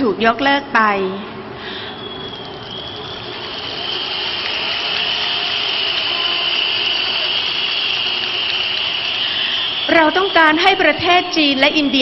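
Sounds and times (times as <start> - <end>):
whistles blowing: 1.7 - 10.8, 11.5 - 12.0
crowd cheering: 1.9 - 12.0.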